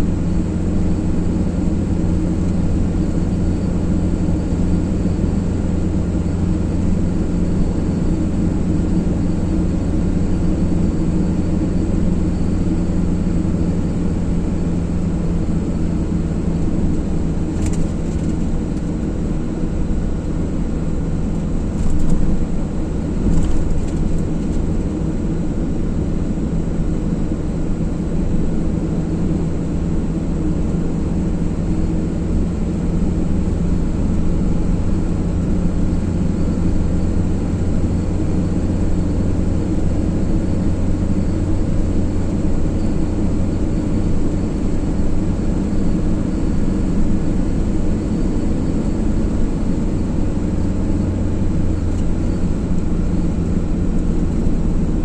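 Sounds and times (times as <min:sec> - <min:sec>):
car engine drone and road noise: 0:00.0 - 0:55.0.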